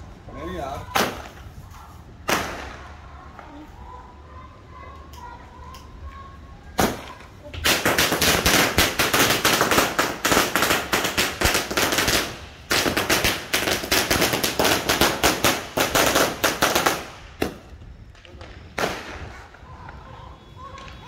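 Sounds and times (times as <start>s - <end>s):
firecrackers popping: 0.9s - 3.6s, 6.7s - 21.0s.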